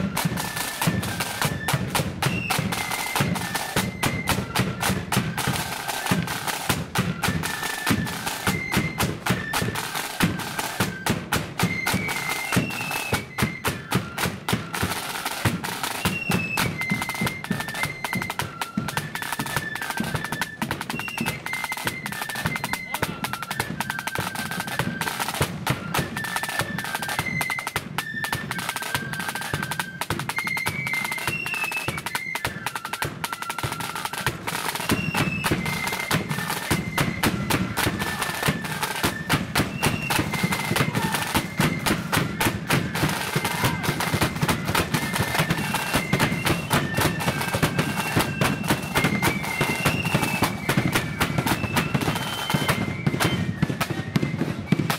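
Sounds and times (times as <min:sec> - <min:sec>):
flutes playing a melody: 0:00.0 - 0:54.9
snare drums rattling: 0:00.0 - 0:54.9.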